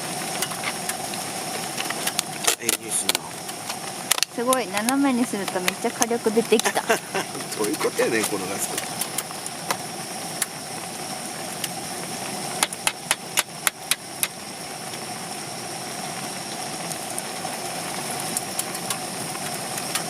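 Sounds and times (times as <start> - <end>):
gas stove burner rushing: 0.0 - 20.0.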